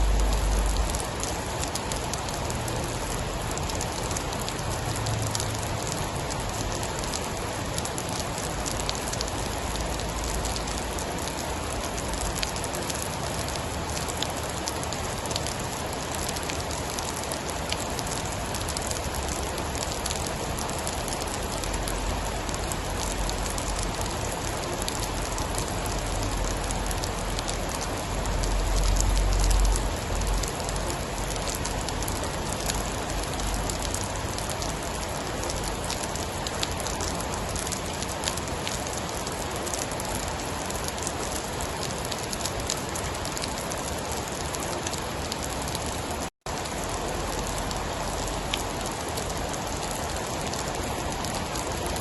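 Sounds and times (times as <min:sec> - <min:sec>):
heavy rain: 0:00.0 - 0:52.0.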